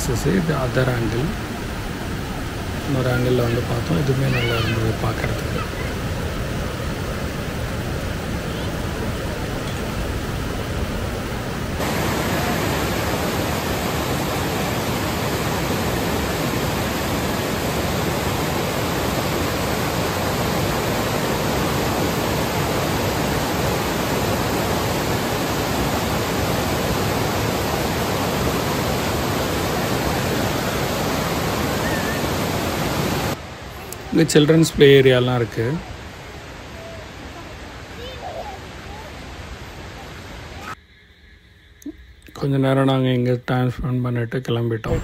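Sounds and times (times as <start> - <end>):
roar of falling water: 0.0 - 40.8.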